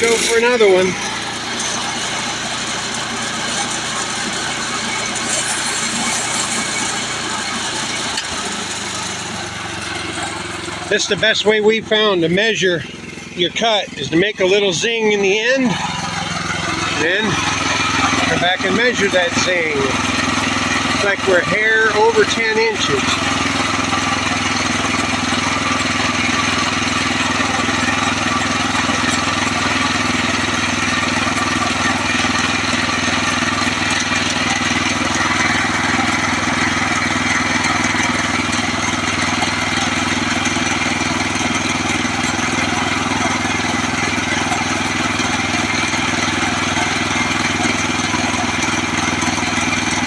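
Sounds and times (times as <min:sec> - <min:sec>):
band saw cutting log: 0:00.0 - 0:50.0
gas engine running: 0:00.0 - 0:50.0.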